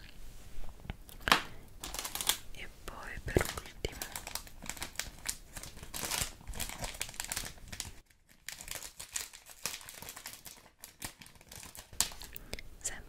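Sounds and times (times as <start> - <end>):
crinkling and rustling: 0.0 - 12.5.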